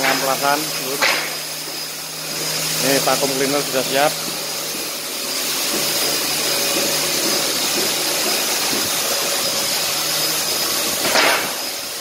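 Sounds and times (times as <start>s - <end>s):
floor sander motors whining: 0.0s - 12.0s.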